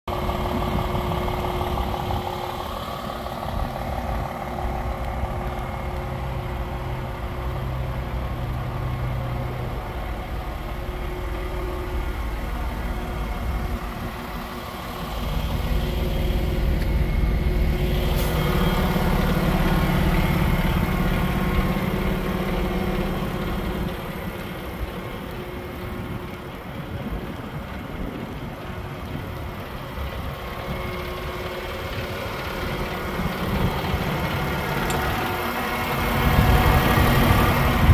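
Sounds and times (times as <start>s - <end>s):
diesel truck engine idling: 0.1s - 37.9s.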